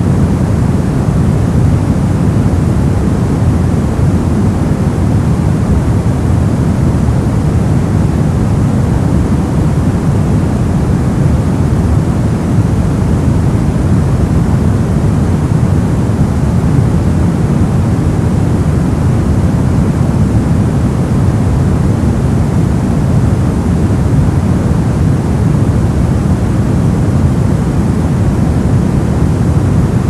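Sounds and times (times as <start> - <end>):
brown noise: 0.0 - 30.0.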